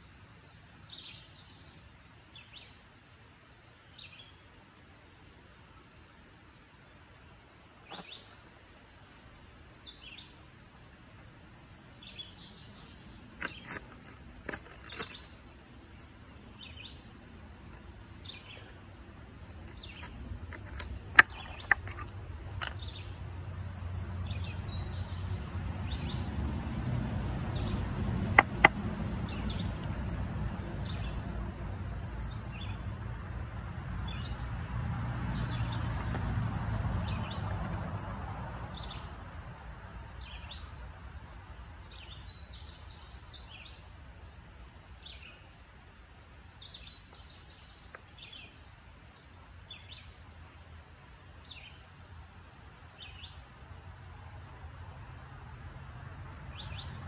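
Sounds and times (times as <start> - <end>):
songbirds singing: 0.0 - 2.9, 7.2 - 54.9, 55.6 - 57.0.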